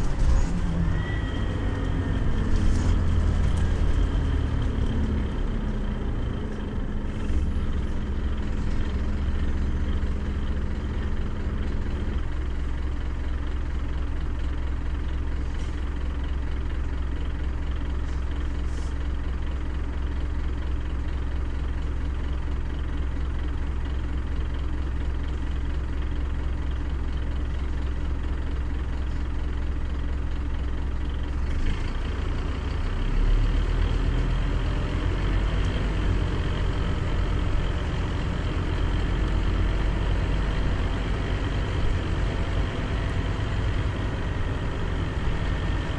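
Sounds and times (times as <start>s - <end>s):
road noise: 0.0s - 22.5s, 27.3s - 45.9s
bus engine drone: 0.0s - 45.9s.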